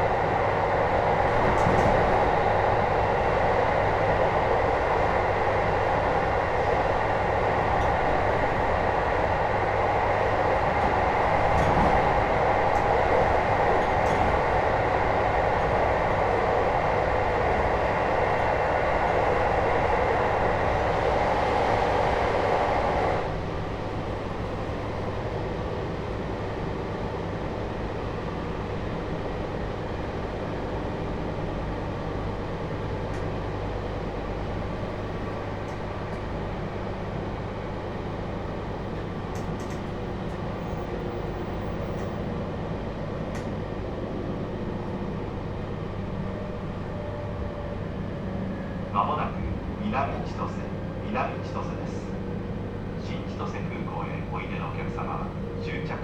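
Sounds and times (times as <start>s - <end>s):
electric train running at speed: 0.0s - 56.0s.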